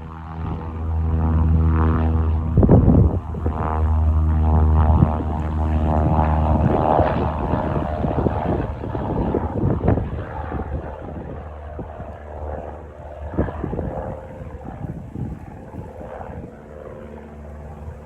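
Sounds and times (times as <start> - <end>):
propeller plane engine: 0.0 - 18.0
wind buffeting microphone: 0.0 - 18.0.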